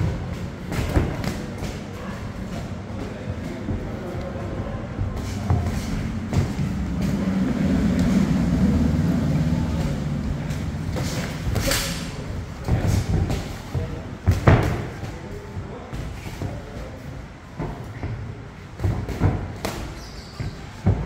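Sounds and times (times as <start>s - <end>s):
murmur of gym background: 0.0s - 21.0s.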